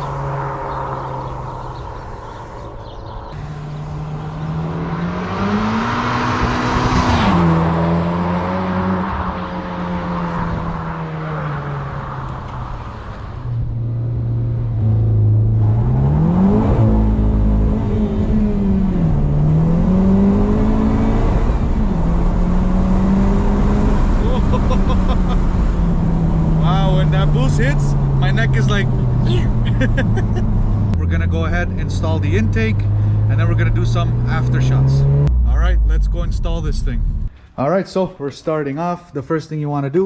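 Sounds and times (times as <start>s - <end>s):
car engine accelerating hard: 0.0s - 37.3s.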